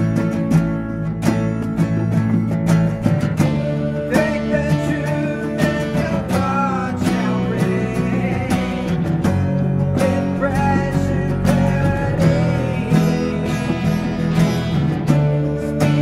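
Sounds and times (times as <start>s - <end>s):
guitar-led song with steady beat: 0.0s - 16.0s.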